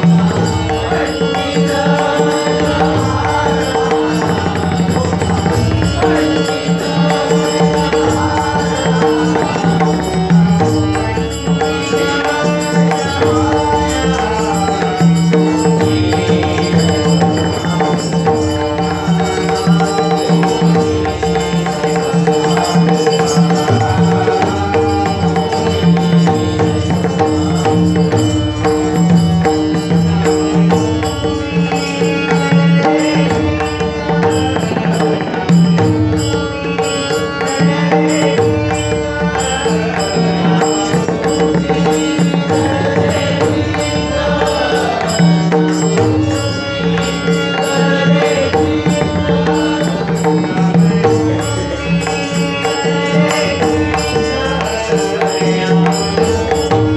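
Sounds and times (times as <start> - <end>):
devotional music: 0.0 - 56.9.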